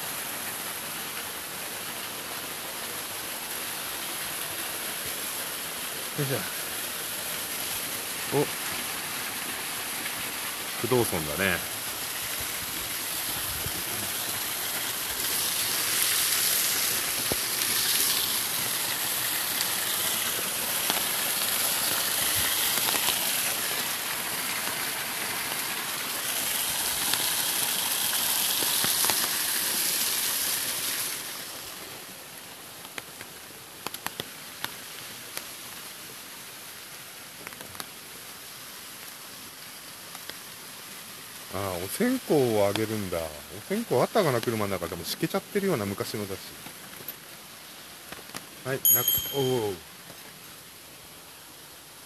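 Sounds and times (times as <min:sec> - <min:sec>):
small waterfall rushing: 0:00.0 - 0:52.0.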